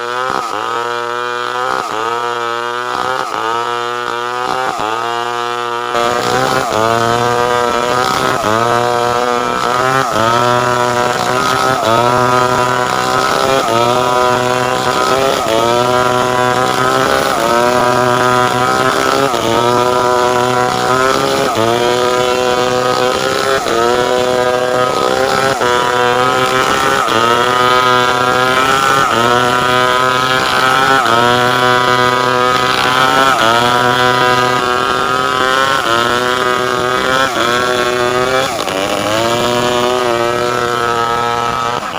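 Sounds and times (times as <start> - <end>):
chainsaw cutting timber: 0.0 - 41.9.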